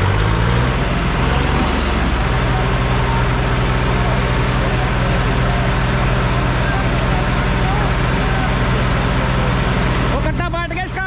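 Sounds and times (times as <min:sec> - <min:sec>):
tractor diesel engines under load: 0:00.0 - 0:11.0.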